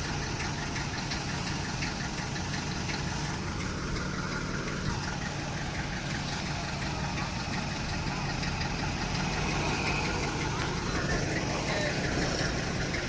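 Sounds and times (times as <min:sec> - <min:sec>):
diesel engine idling: 0:00.0 - 0:13.0
light regular ticking: 0:00.0 - 0:13.0.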